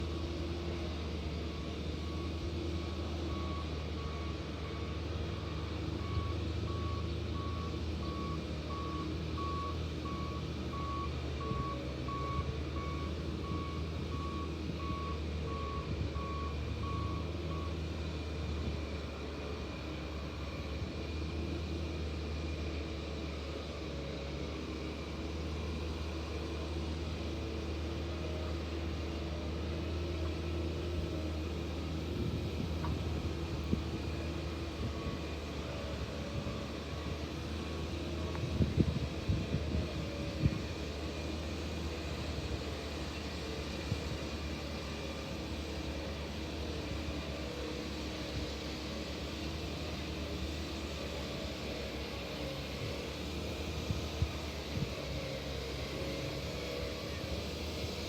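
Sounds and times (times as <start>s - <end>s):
diesel machinery droning: 0.0s - 58.0s.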